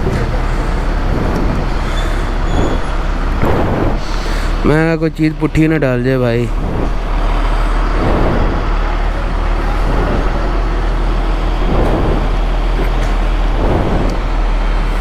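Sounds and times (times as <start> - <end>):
road traffic noise: 0.0 - 15.0
vehicle engine: 0.0 - 15.0.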